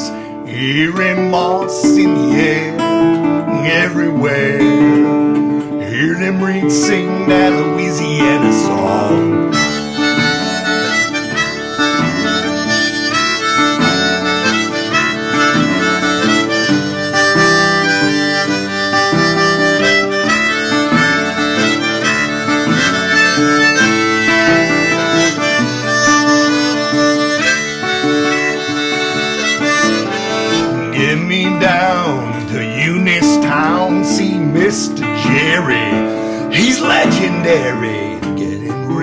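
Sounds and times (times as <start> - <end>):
fast harmonica playing: 0.0 - 38.2
guitar accompaniment: 0.0 - 39.0.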